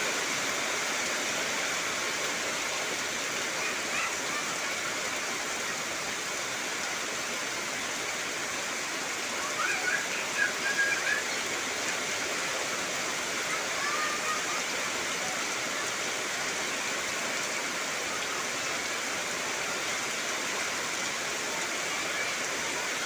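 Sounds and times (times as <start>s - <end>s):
heavy rain hiss: 0.0s - 23.0s.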